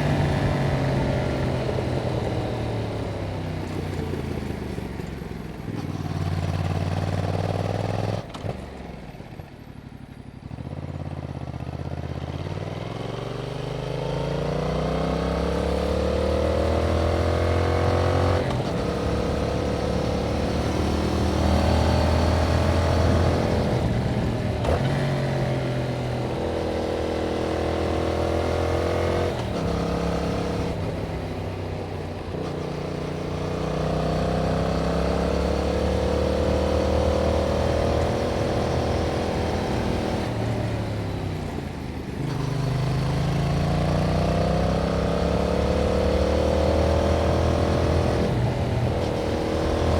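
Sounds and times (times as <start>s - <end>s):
motorcycle engine revving: 0.0s - 4.4s, 5.7s - 8.9s, 9.8s - 49.9s.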